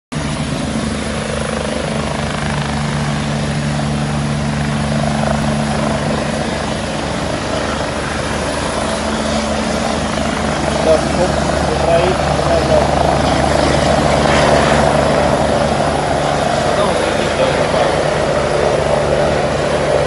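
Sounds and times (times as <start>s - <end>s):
helicopter engine drone: 0.1s - 20.0s
helicopter rotor blades beating: 0.1s - 20.0s.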